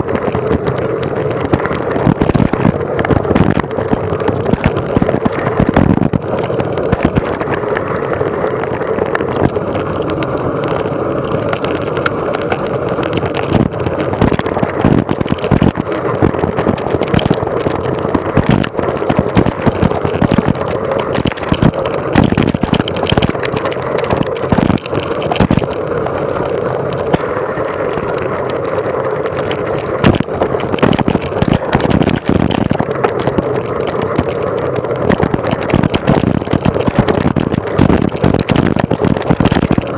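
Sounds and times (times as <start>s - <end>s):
mountain bike rattling: 0.0s - 39.9s
wind on microphone: 0.0s - 39.9s.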